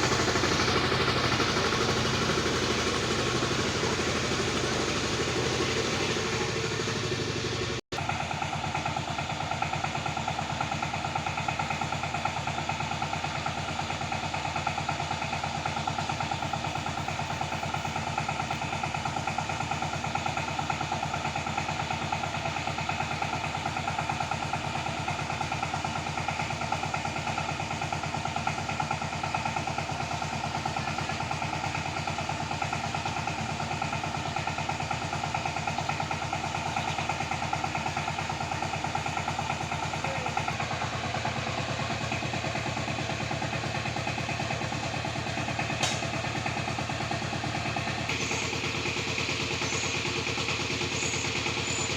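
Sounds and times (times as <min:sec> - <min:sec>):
tractor engine droning: 0:00.0 - 0:51.9.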